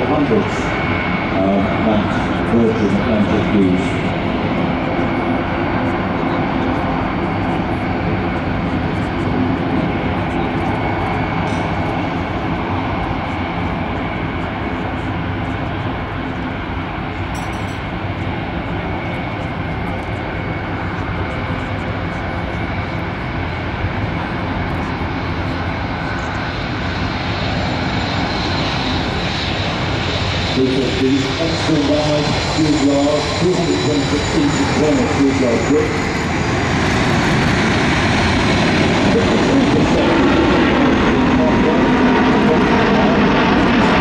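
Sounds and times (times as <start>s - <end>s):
faint high engine whine: 0.0s - 44.0s
jet engines in flight: 0.0s - 44.0s.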